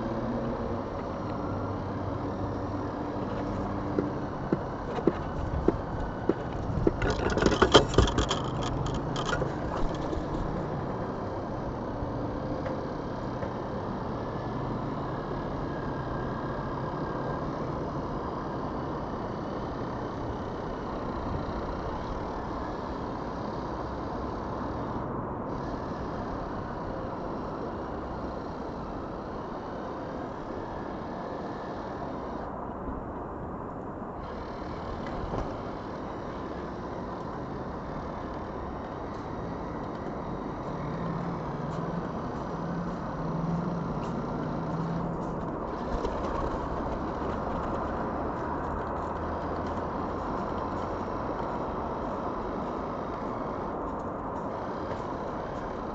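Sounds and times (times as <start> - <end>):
distant road traffic: 0.0 - 55.9
low engine hum: 0.0 - 55.9.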